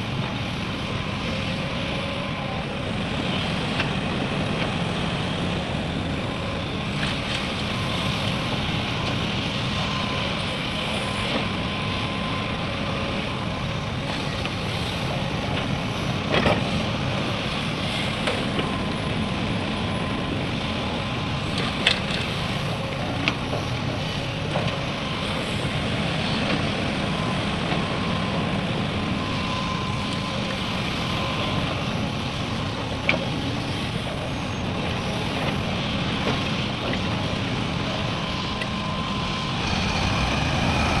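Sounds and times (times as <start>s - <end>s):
heavy diesel engines running: 0.0s - 41.0s.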